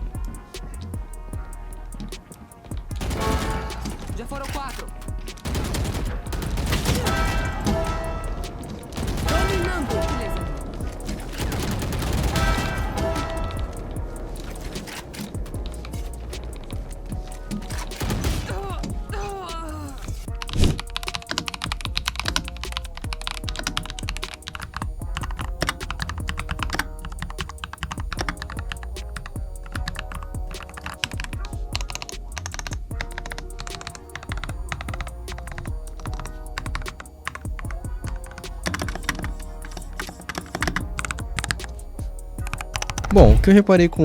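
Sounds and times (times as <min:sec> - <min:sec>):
background music: 0:00.0 - 0:44.0.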